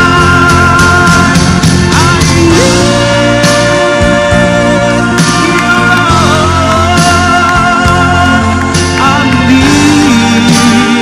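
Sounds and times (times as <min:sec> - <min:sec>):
man singing into a microphone: 0:00.0 - 0:11.0
rock-pop backing band: 0:00.0 - 0:11.0.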